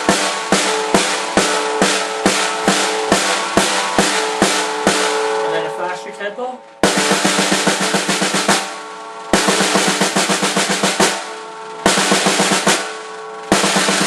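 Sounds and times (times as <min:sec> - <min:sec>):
snare drum roll: 0:00.0 - 0:05.8, 0:06.7 - 0:14.0.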